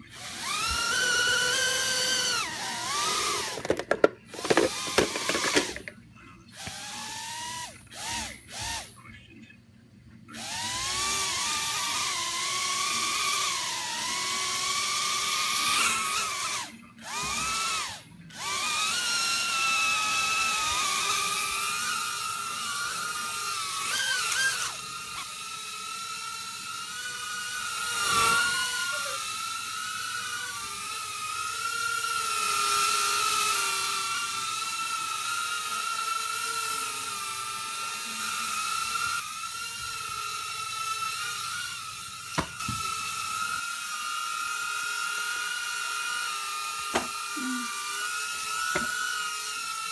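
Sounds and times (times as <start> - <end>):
quadcopter motors whining: 0.0 - 9.0, 10.3 - 49.9.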